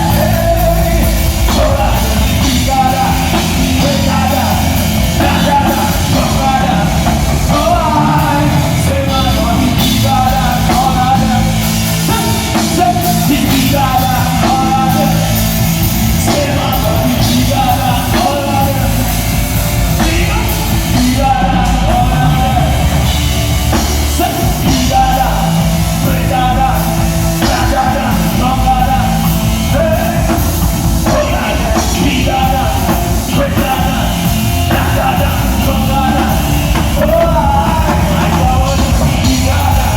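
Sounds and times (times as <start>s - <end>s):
bass: 0.0s - 39.9s
drum kit: 0.0s - 39.9s
live band playing: 0.0s - 39.9s.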